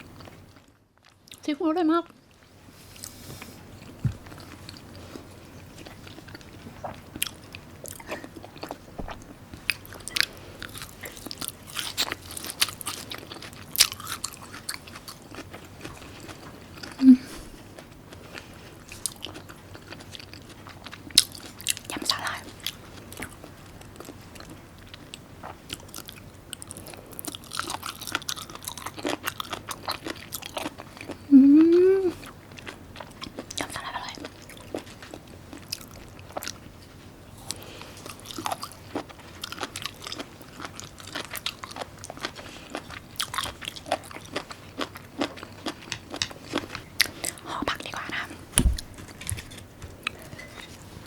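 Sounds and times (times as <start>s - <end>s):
chewing and crunching food: 0.0s - 51.0s.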